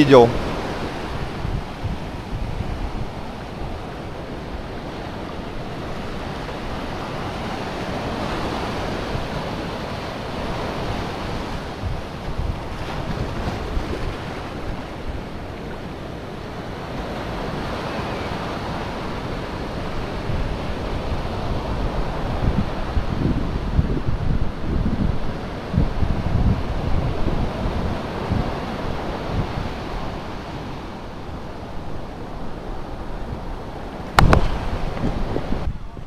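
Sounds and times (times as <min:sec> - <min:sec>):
sea surf breaking on sand: 0:00.0 - 0:36.0
wind buffeting microphone: 0:00.0 - 0:36.0.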